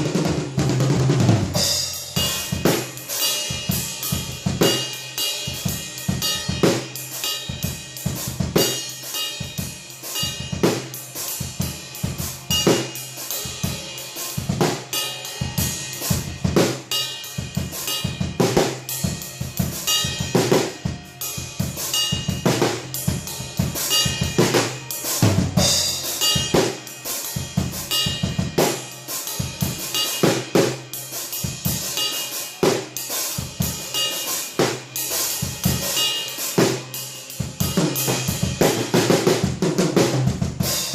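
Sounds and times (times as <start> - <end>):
cymbals: 0.0 - 40.9
snare and bass drum strokes: 0.0 - 40.9.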